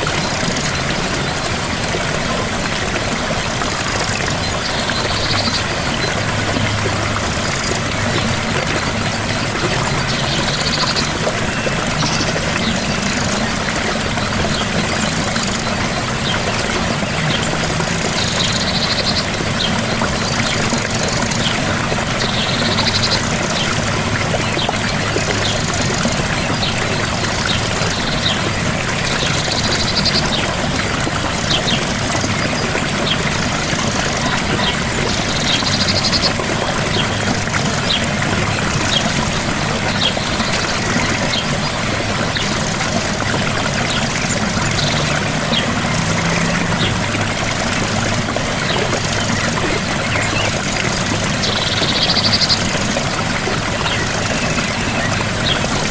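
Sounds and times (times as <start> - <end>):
gentle waterfall rushing: 0.0 - 55.9.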